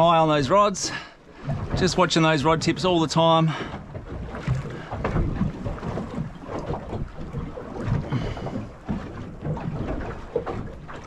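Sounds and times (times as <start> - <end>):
water slapping against boat hull: 0.0 - 11.0.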